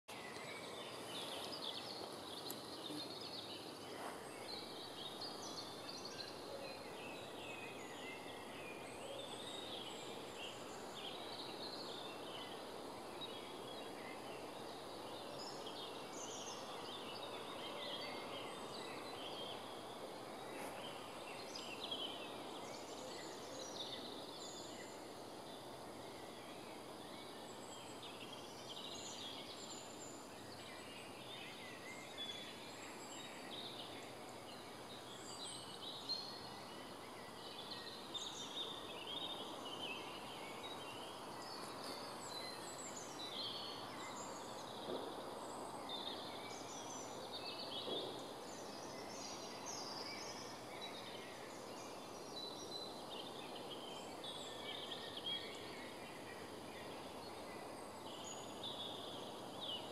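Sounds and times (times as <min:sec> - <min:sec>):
background hiss: 0:00.1 - 0:59.9
birds singing: 0:00.1 - 0:59.9.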